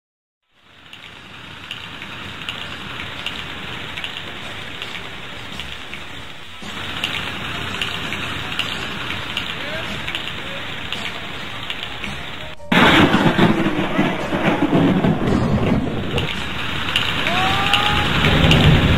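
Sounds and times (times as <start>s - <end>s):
steady rain: 0.4s - 18.9s.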